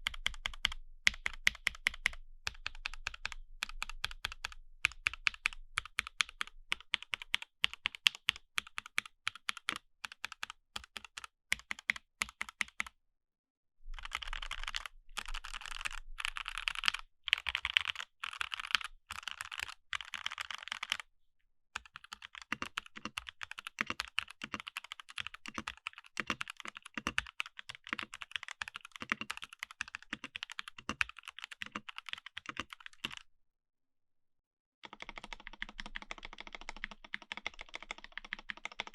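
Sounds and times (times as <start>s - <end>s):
mechanical keyboard typing: 0.0s - 12.9s, 14.0s - 21.0s, 21.8s - 33.2s, 34.8s - 38.9s.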